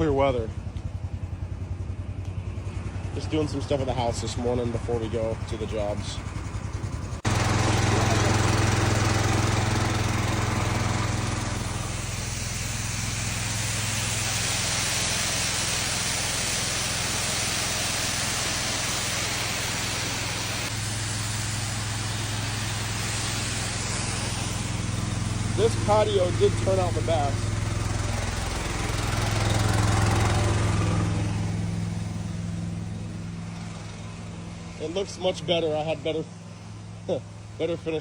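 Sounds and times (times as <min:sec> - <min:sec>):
pressure washer engine running: 0:00.0 - 0:38.0
water spray hissing on concrete: 0:07.2 - 0:38.0.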